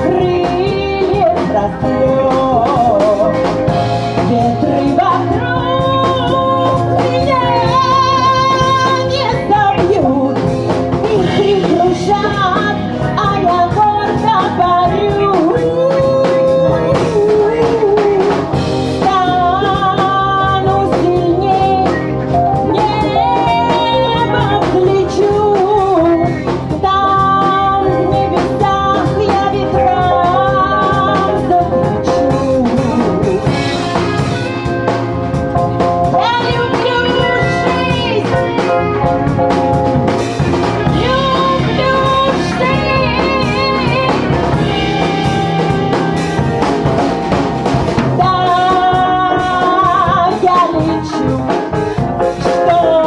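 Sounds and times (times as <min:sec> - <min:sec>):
person singing: 0:00.0 - 0:47.3, 0:48.0 - 0:53.0
live band playing: 0:00.0 - 0:53.0.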